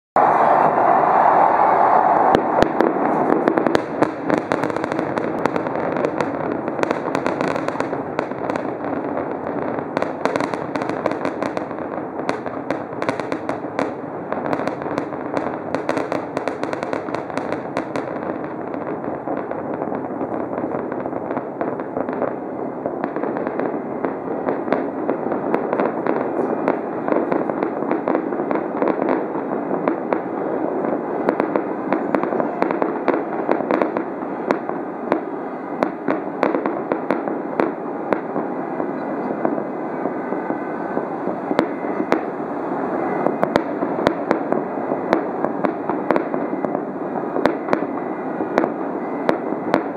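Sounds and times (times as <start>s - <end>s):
fireworks bangs and crackling: 2.0s - 49.9s.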